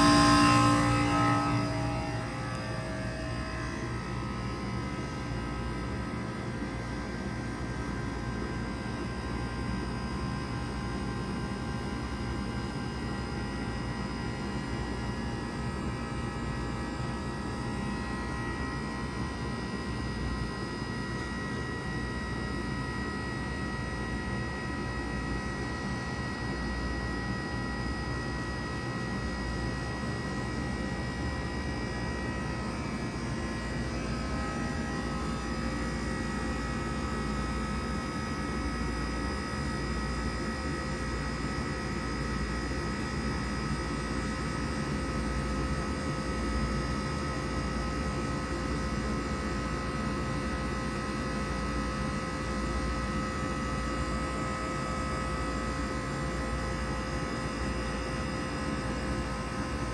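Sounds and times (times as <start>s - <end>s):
heat pump compressor humming: 0.0s - 59.9s.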